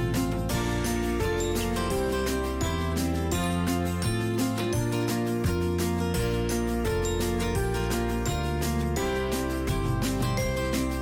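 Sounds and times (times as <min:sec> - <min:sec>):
guitar-led song with steady beat: 0:00.0 - 0:11.0.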